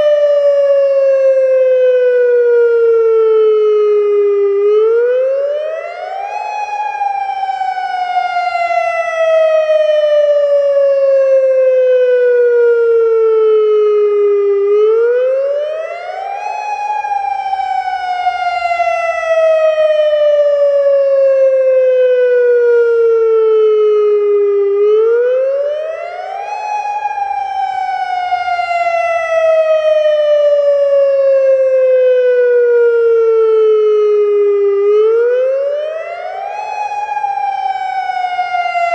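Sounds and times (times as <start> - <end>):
outdoor warning siren wailing: 0.0 - 38.9.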